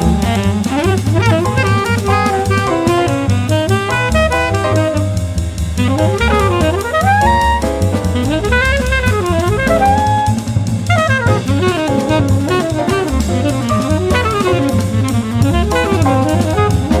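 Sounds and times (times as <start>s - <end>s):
jazz music with saxophone: 0.0s - 17.0s.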